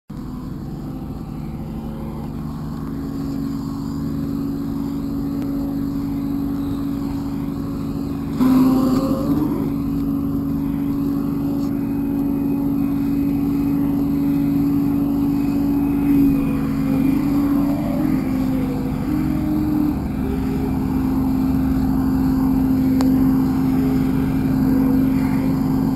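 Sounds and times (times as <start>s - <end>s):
vehicle engine running: 0.1s - 25.9s.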